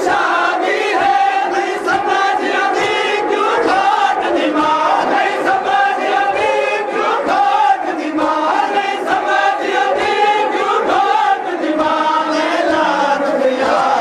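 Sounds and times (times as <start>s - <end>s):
crowd of men chanting: 0.0s - 14.0s.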